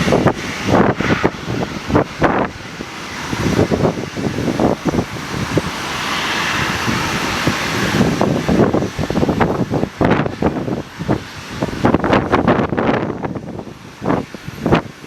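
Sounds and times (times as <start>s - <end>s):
gusty wind buffeting microphone: 0.0s - 15.0s
steady rushing wind noise: 0.0s - 15.0s.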